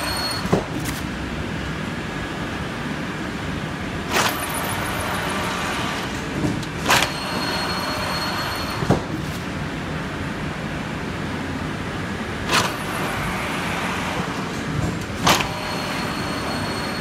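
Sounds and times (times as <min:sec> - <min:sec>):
printing machine rumble: 0:00.0 - 0:17.0.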